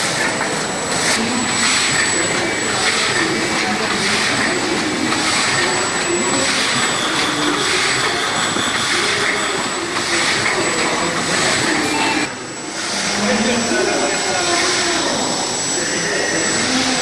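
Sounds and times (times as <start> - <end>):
die-cutting machine running: 0.0 - 17.0.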